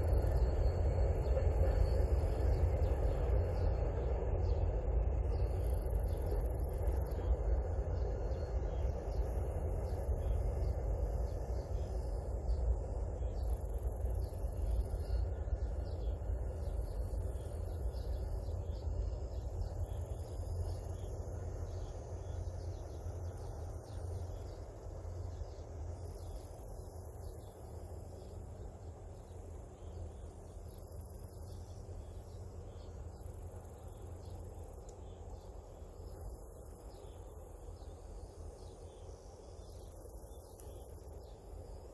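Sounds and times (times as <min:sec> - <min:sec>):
train rumbling across steel bridge: 0:00.0 - 0:41.9.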